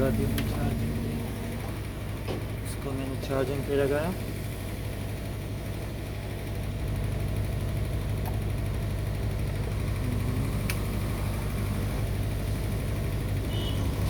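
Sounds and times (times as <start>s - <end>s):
transformer hum: 0.0s - 14.0s.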